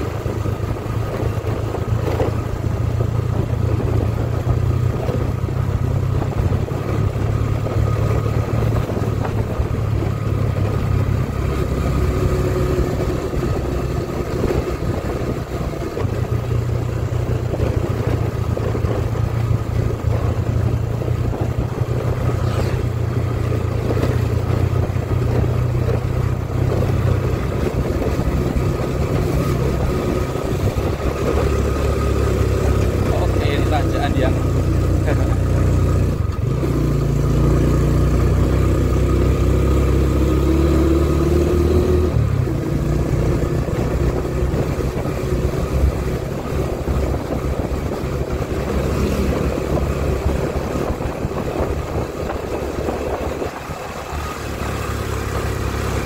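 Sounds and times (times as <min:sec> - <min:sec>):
scooter engine and road rumble: 0:00.0 - 0:56.0.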